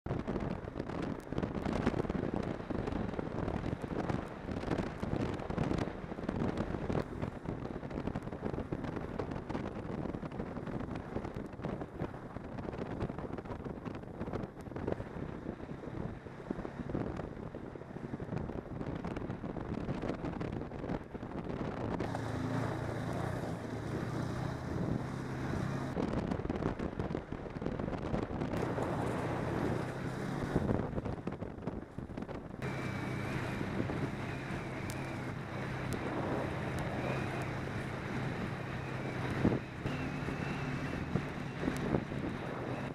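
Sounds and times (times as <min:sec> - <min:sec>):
snowmobile engine drone: 0:00.1 - 0:42.9
wind buffeting microphone: 0:00.1 - 0:42.9.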